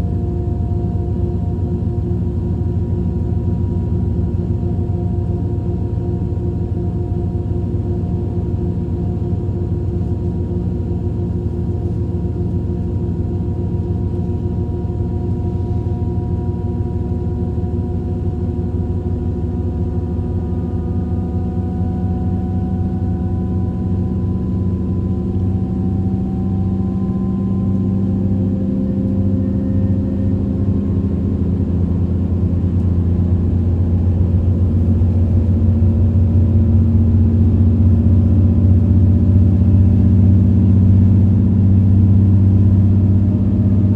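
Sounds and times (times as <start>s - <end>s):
train interior hum: 0.0s - 43.9s.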